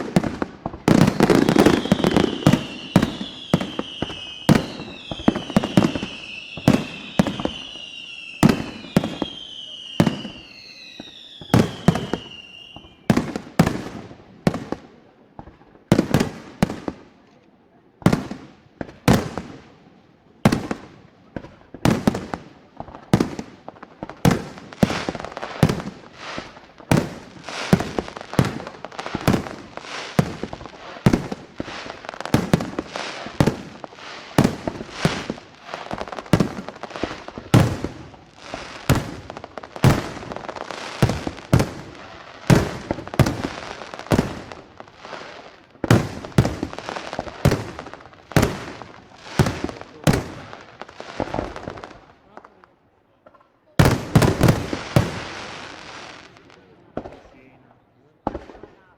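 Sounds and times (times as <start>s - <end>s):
fireworks banging and crackling: 0.0s - 58.9s.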